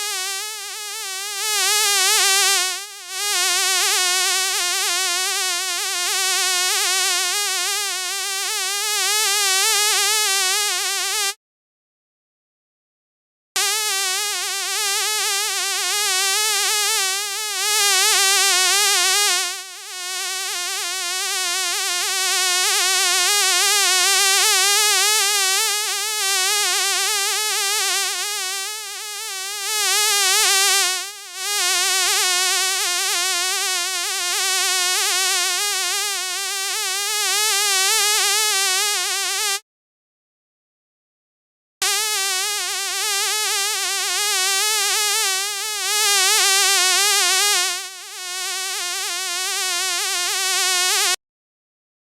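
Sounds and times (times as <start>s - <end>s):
fly buzzing: 0.0s - 11.4s, 13.6s - 39.6s, 41.8s - 51.2s.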